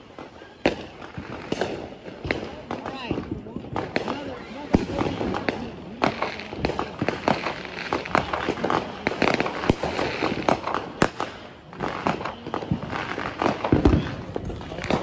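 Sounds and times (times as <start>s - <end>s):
firecracker cracks and pops: 0.0s - 15.0s
steady crackle: 0.0s - 15.0s.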